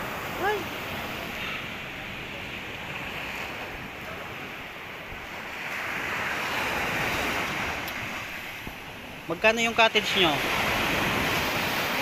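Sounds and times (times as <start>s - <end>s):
sea surf washing on beach: 0.0s - 12.0s
wind rumbling on microphone: 0.0s - 12.0s.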